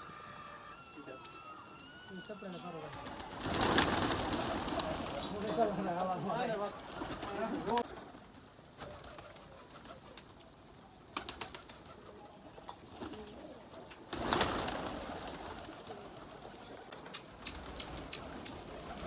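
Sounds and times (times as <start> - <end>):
pigeons cooing: 0.0 - 10.4, 11.2 - 19.0
wings fluttering: 1.4 - 10.4, 11.2 - 19.0.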